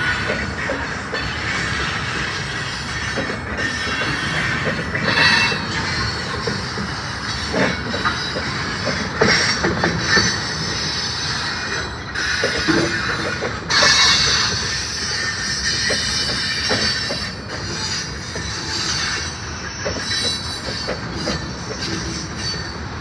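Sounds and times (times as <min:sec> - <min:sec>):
freight train rumbling past: 0:00.0 - 0:23.0
train wheels squealing: 0:00.0 - 0:23.0.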